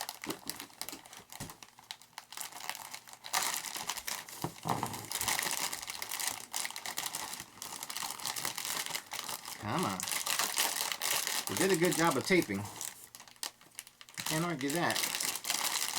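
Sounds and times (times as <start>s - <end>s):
plastic wrapping crinkling: 0.0s - 15.9s.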